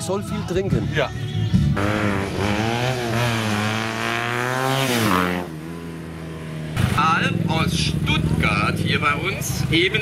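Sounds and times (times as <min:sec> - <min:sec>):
motorcycle engine passing by: 0:01.8 - 0:10.0.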